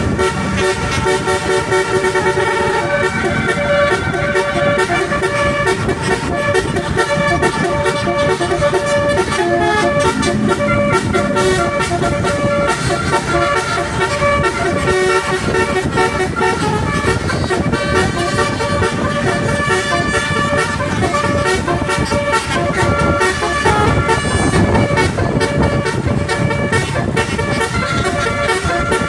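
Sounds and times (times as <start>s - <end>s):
musical bus horn playing a tune: 0.0s - 29.0s.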